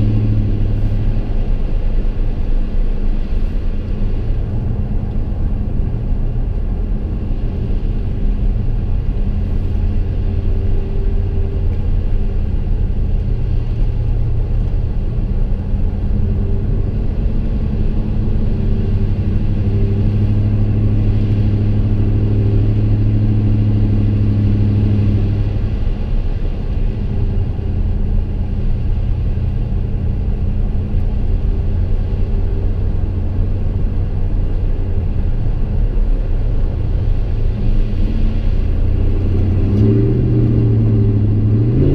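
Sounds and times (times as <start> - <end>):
truck exhaust drone: 0.0 - 41.9.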